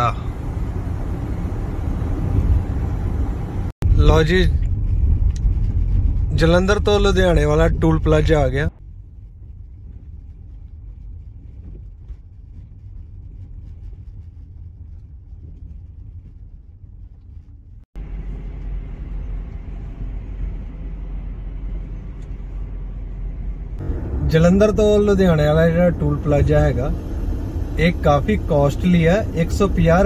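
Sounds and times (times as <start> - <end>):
engine and tyre rumble: 0.0 - 30.0.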